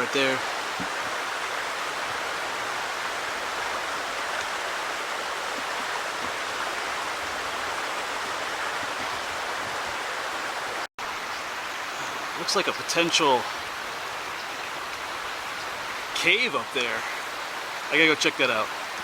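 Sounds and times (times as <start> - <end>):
waterfall splashing: 0.0 - 19.0.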